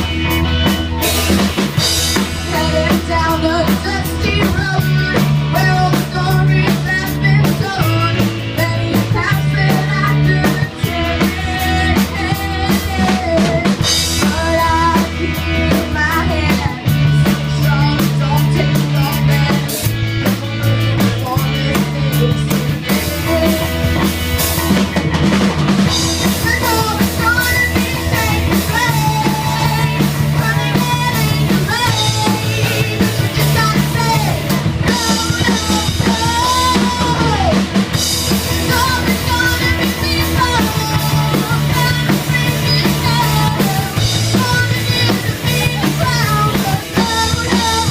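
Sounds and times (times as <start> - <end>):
person singing lead vocal: 0.0 - 47.9
rock band playing live: 0.0 - 47.9.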